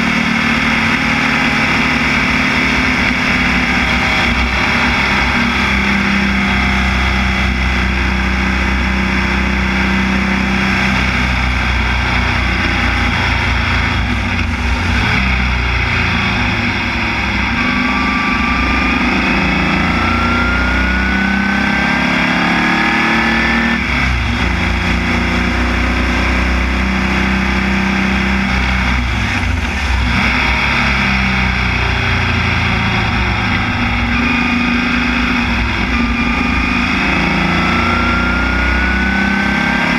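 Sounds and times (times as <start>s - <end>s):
racing car engine revving: 0.0s - 39.9s.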